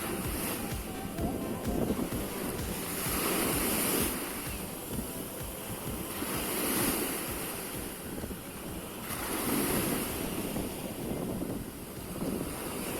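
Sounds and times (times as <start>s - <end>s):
sea surf washing onto beach: 0.0s - 12.9s
wind rumbling on microphone: 0.0s - 12.9s.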